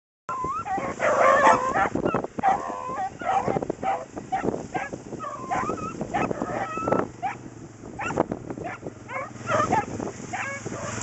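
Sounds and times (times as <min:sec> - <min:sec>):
dogs yipping and barking: 0:00.3 - 0:07.4, 0:08.0 - 0:11.0.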